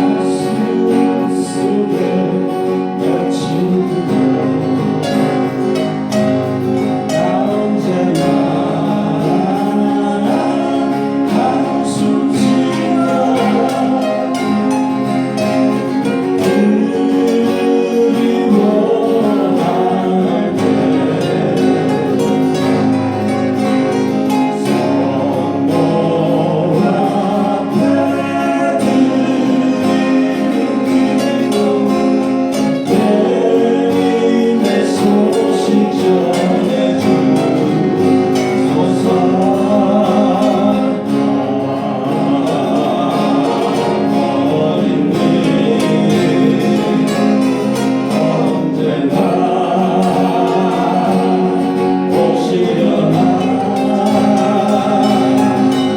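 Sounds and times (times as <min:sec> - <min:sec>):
acoustic guitars: 0:00.0 - 0:55.9
person singing: 0:00.0 - 0:55.9.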